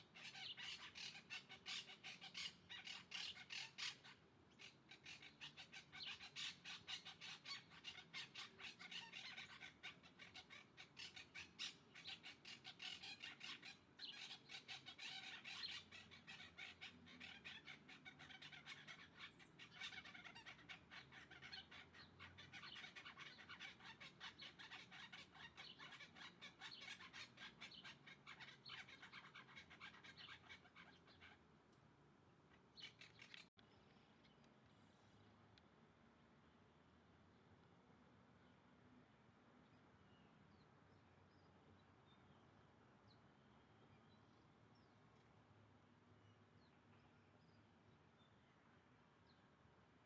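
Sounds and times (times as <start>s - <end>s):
birds chattering faintly: 0.0s - 31.6s, 32.2s - 50.0s.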